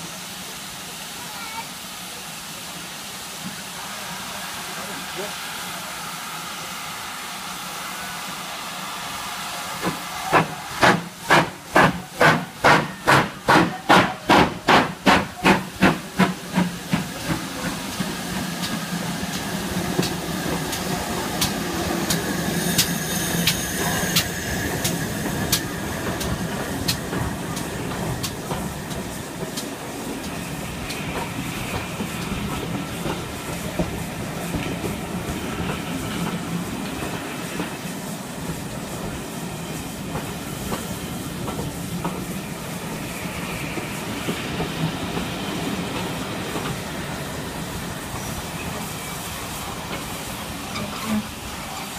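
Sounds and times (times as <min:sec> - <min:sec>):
steam hissing: 0:00.0 - 0:51.9
steam locomotive chuffing: 0:00.0 - 0:51.9.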